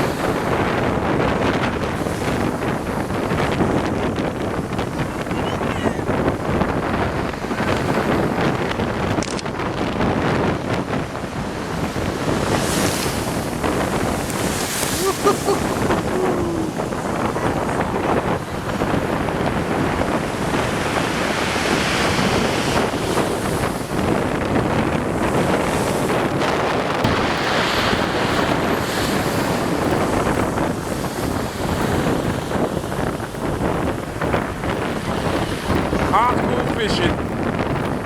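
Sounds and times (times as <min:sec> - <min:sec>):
waves breaking on shore: 0:00.0 - 0:38.0
wind buffeting microphone: 0:00.0 - 0:38.0.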